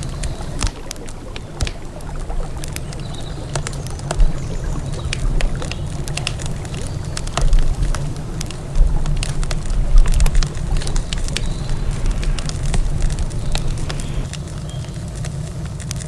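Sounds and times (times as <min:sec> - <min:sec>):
low thuds: 0:00.0 - 0:14.3
river water rumbling: 0:00.0 - 0:15.2
campfire crackling: 0:00.0 - 0:15.6.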